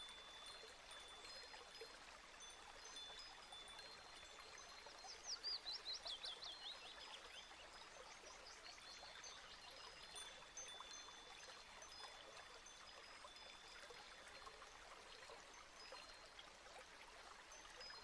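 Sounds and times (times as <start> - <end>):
steady water-like hiss: 0.0 - 18.0.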